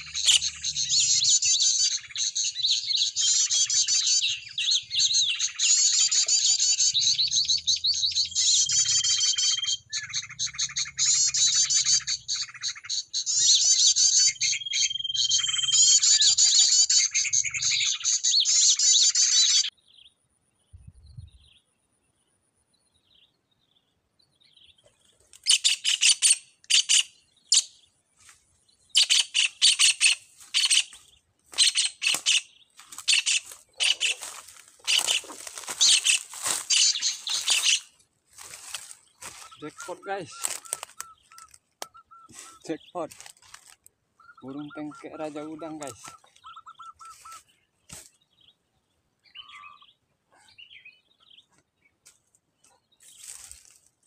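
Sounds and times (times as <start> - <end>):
harsh bird calls: 0.0 - 19.7, 24.5 - 51.9
recorded bird chirps and trills: 0.0 - 54.0.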